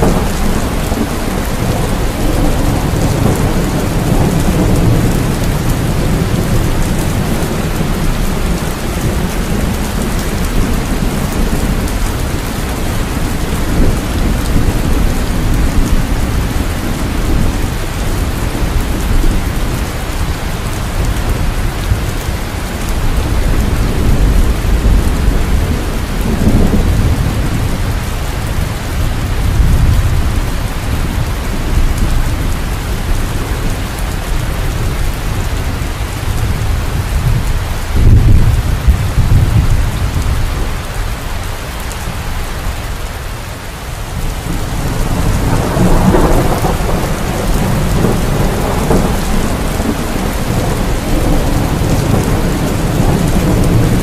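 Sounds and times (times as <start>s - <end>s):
rolling thunder: 0.0s - 41.0s, 44.1s - 54.0s
heavy rain: 0.0s - 54.0s.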